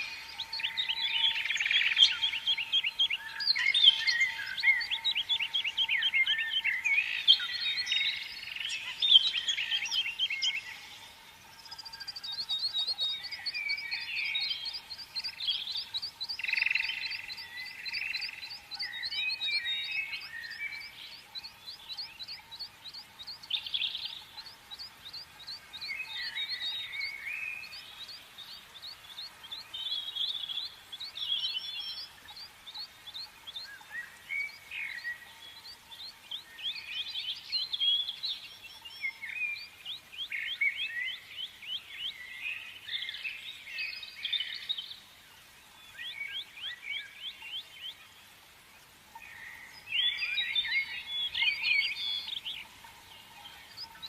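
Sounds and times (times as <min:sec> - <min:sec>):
birds twittering warbles: 0:00.0 - 0:54.0
small birds chirping: 0:00.0 - 0:54.0.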